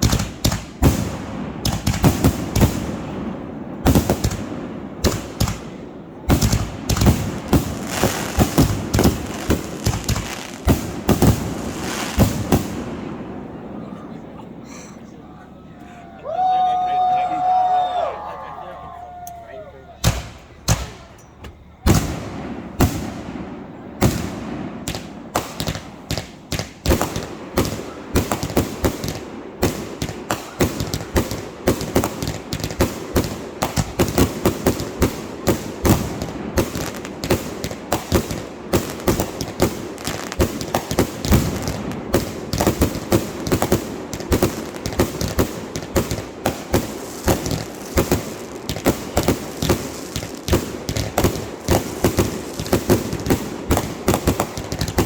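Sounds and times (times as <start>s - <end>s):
fireworks bangs and crackling: 0.0s - 15.6s, 19.9s - 55.0s.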